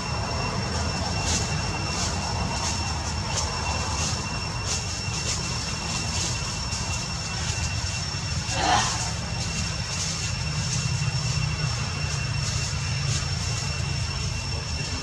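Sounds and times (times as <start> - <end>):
high-pitched whine: 0.0 - 15.0
steady low rumble: 0.0 - 15.0.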